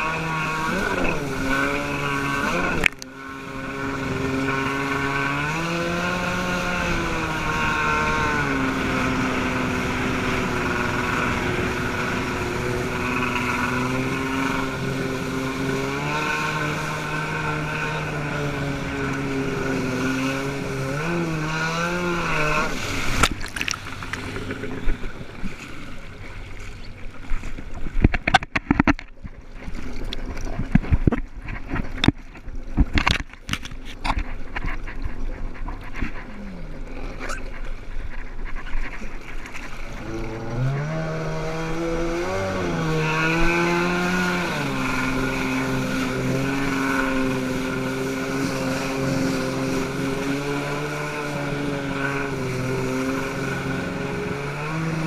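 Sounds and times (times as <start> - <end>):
hull slapping water: 0.0 - 55.0
jet ski engine running: 0.0 - 55.0.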